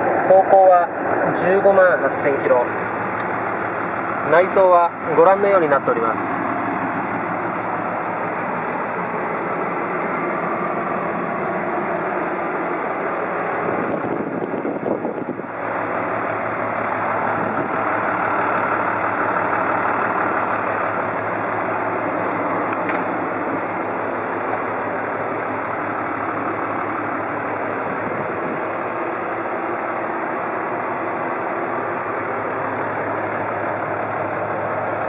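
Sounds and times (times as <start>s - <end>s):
diesel truck engine idling: 0.0s - 35.0s
engine knocks: 0.9s - 35.0s.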